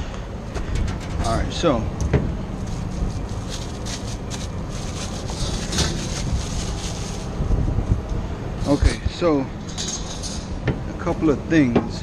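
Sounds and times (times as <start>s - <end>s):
steady low rumble: 0.0s - 11.5s.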